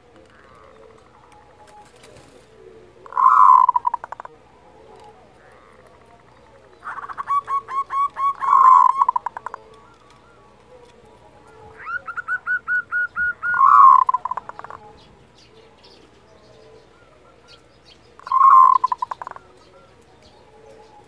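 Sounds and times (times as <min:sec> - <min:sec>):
dove calling: 0:00.0 - 0:21.0.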